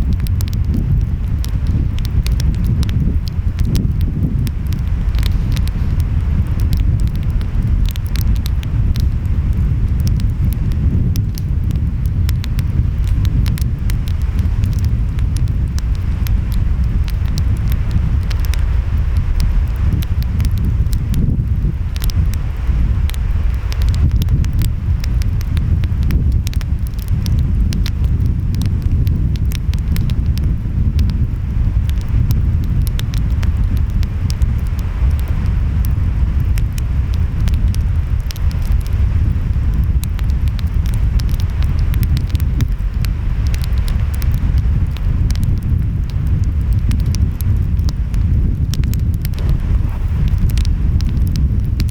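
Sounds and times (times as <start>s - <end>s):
surf rumbling: 0.0s - 45.2s, 46.5s - 51.9s
wind: 0.0s - 51.9s
wood fire crackling: 0.0s - 51.9s.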